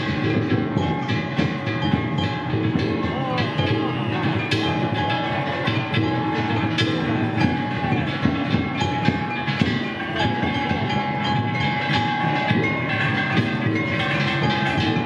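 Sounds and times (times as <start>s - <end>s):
crowd din: 0.0s - 15.0s.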